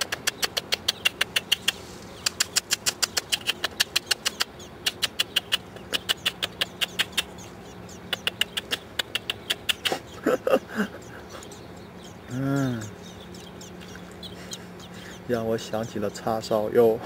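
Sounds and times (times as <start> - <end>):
nestlings begging cheeps: 0.0 - 16.6.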